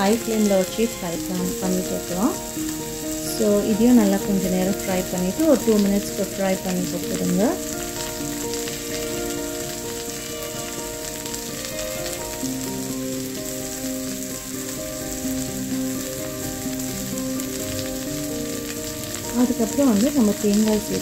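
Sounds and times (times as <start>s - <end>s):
onions sizzling in hot oil: 0.0s - 21.0s
soft background music: 0.0s - 21.0s.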